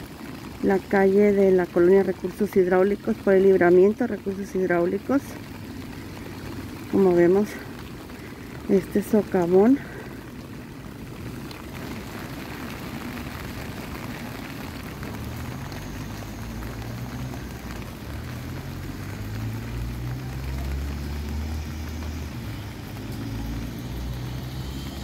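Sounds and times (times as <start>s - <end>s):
motor vehicle engine hum: 0.0s - 25.0s
wet street hiss: 0.0s - 25.0s.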